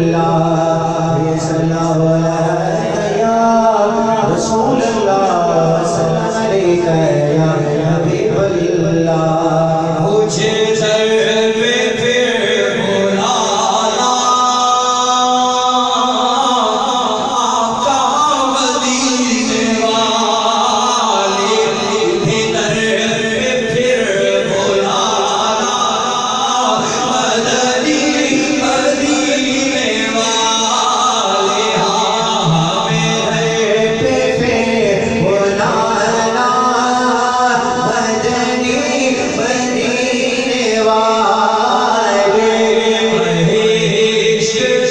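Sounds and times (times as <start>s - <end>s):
man singing devotional song: 0.0s - 44.9s.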